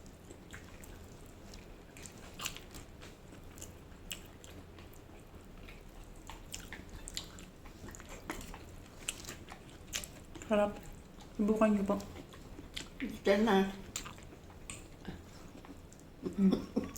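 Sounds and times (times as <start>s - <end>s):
person chewing food: 0.0s - 16.9s.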